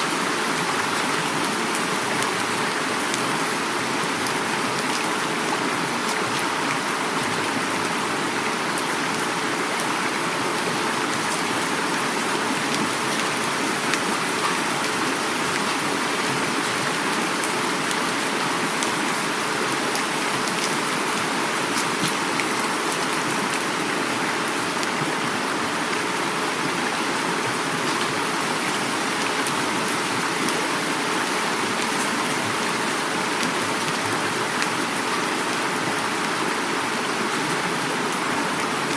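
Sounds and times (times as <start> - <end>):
heavy rain pattering: 0.0 - 38.9
river water rushing: 0.0 - 38.9.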